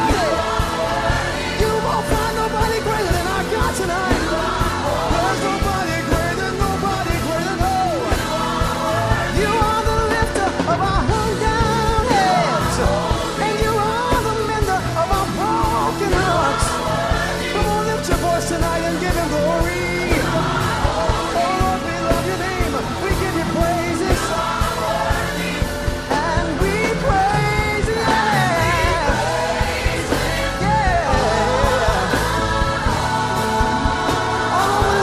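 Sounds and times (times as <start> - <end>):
band with bass and drums: 0.0 - 35.0
person singing gospel: 0.0 - 35.0.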